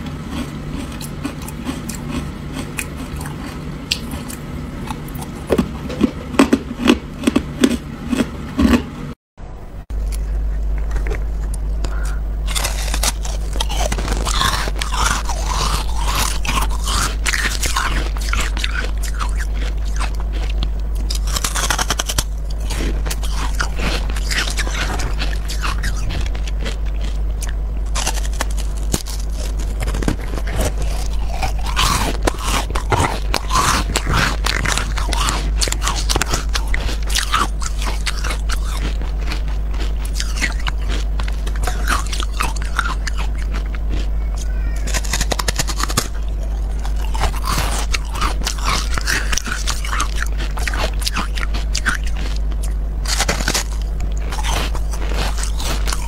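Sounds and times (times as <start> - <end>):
ice crunching while chewed: 0.0 - 8.9, 10.0 - 56.0.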